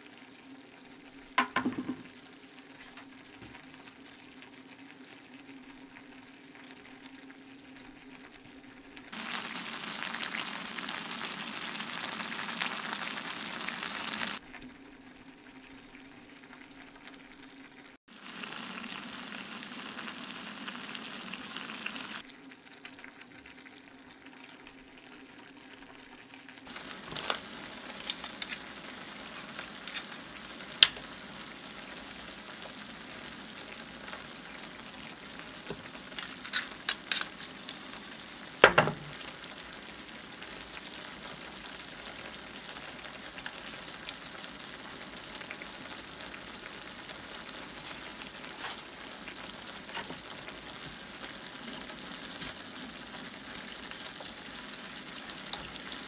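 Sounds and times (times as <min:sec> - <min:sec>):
bacon sizzling in a skillet: 0:00.0 - 0:56.0.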